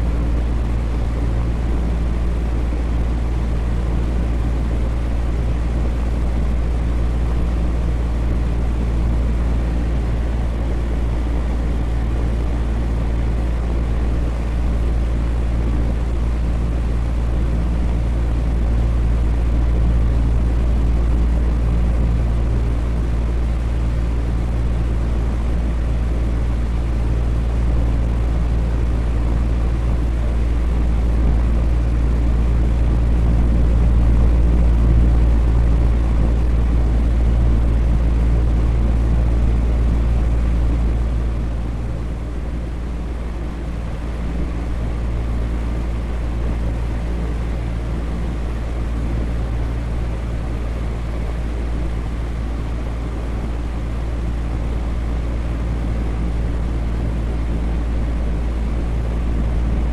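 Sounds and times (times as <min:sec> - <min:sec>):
deep motor hum: 0:00.0 - 0:59.9
electric fan whooshing air: 0:00.0 - 0:59.9.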